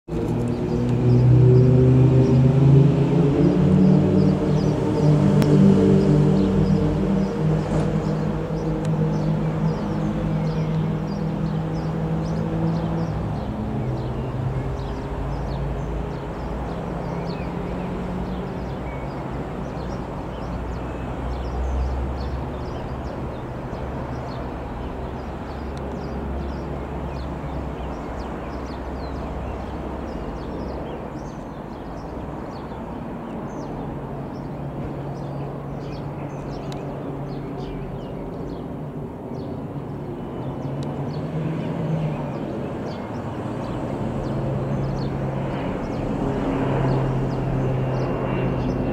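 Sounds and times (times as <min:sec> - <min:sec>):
birds chirping: 0:00.1 - 0:48.9
turboprop plane droning: 0:00.1 - 0:48.9.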